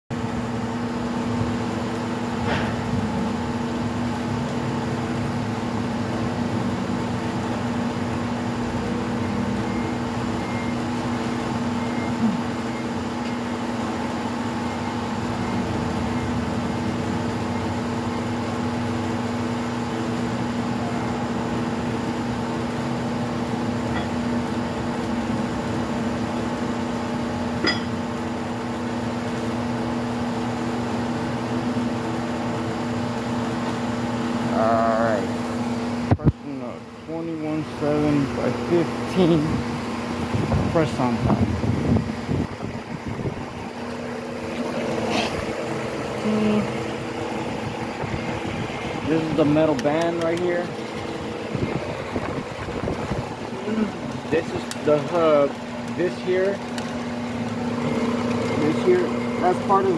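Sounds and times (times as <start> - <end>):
electric machine hum: 0.1 - 59.9.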